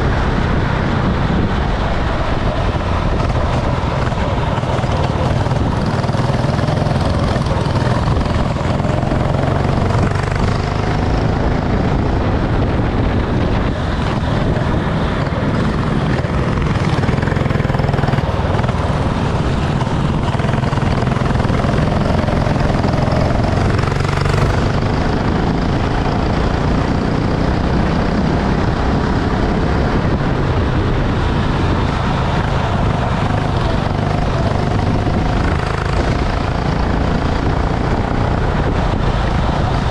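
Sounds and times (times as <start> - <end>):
go-kart engine rumble: 0.0 - 39.9.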